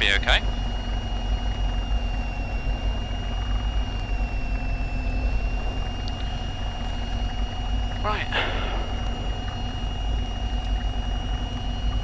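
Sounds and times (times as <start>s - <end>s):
plane engine idling: 0.0s - 12.0s.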